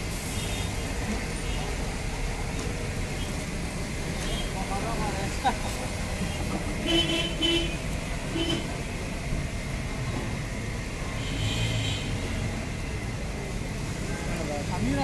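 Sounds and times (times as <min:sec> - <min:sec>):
chips frying in hot oil: 0:00.0 - 0:15.0.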